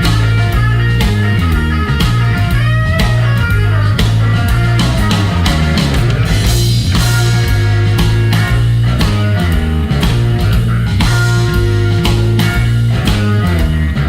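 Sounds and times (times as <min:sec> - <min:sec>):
blues-rock band music: 0:00.0 - 0:14.0.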